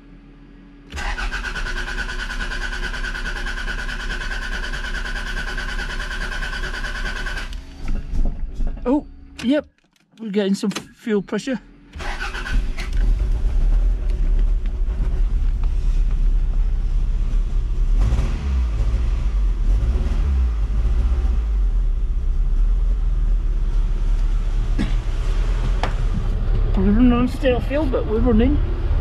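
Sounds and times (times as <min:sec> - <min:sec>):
car engine running: 0:00.0 - 0:09.4, 0:11.7 - 0:29.0.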